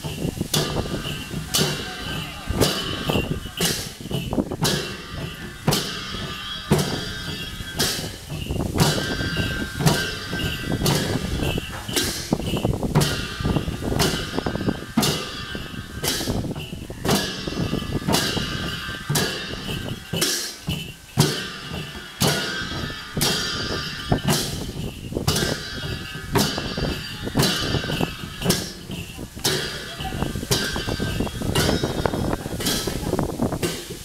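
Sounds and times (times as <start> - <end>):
drums beating dance rhythm: 0.0 - 34.0
hand cymbals clashing: 0.0 - 34.0.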